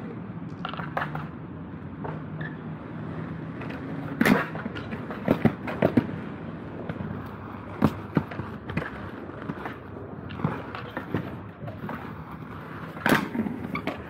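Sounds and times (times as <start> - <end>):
inline skates clacking on concrete: 0.5 - 1.4, 3.4 - 14.0.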